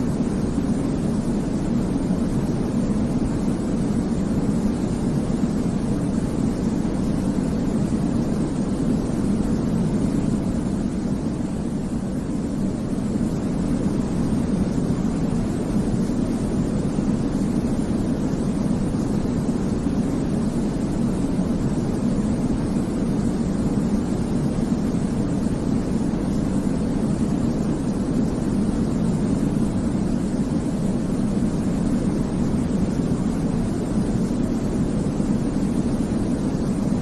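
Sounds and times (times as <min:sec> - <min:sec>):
low rushing white noise: 0:00.0 - 0:37.0.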